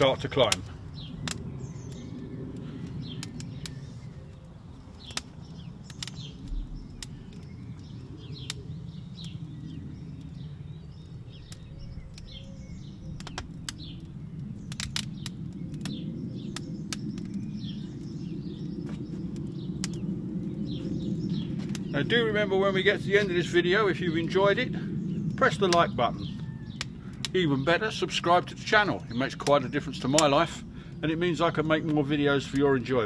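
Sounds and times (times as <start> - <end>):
fire low rumble: 0.0 - 33.0
small birds chirping: 0.0 - 33.0
wood fire crackling and popping: 0.0 - 33.0.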